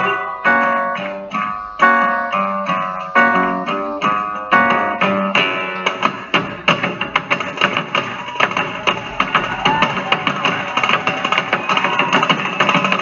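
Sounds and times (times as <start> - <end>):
plucked guitars playing melody: 0.0 - 13.0.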